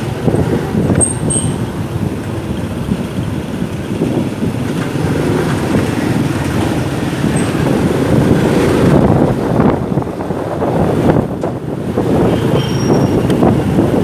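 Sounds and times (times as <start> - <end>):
motorcycle engine running: 0.0 - 11.7
road noise: 0.0 - 14.0
surrounding traffic: 0.0 - 14.0.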